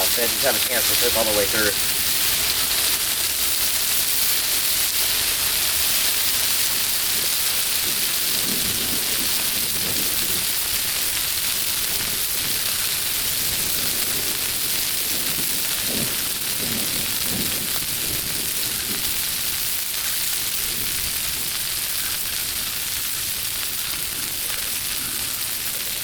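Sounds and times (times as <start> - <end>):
rain falling: 0.0 - 26.0
vegetables sizzling on griddle: 0.0 - 26.0.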